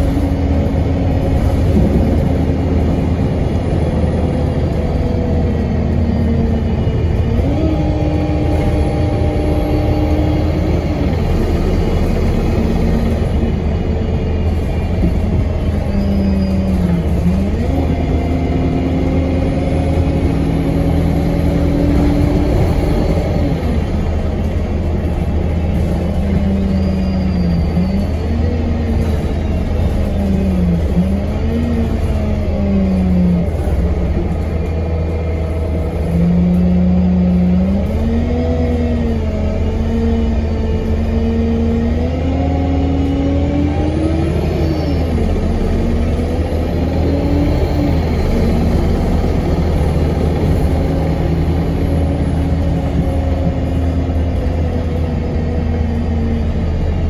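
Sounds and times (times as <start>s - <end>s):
bus engine rumble with whine: 0.0s - 57.0s.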